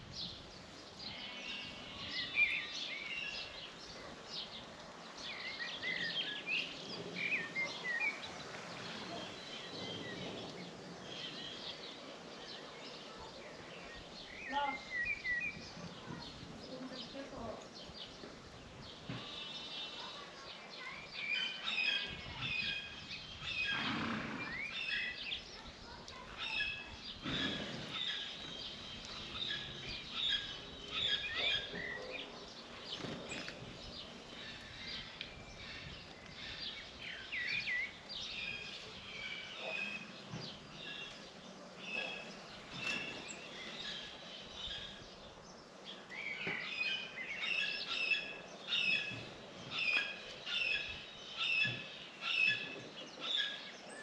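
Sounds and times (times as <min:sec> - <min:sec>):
flock of small birds chirping: 0:00.0 - 0:54.0.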